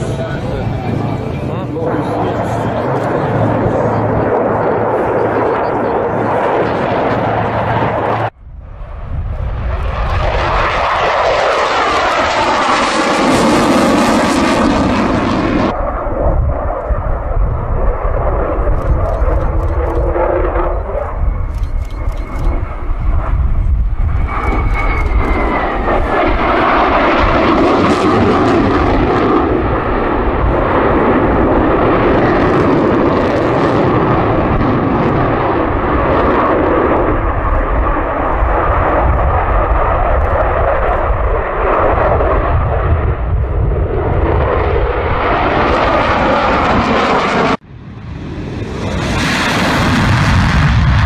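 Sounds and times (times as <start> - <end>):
fighter jet roaring past: 0.0 - 51.0
high jet engine whine: 0.0 - 51.0.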